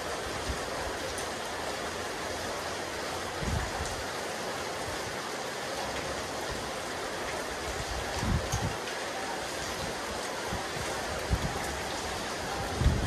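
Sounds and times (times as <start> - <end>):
rain falling on rooftop: 0.0 - 13.0.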